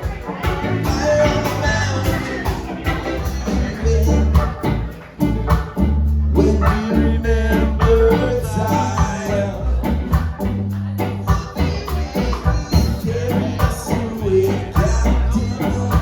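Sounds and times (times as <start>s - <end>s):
person singing: 0.0s - 5.7s, 6.3s - 16.0s
heavy bass line: 0.0s - 16.0s
light percussion beat: 0.0s - 16.0s.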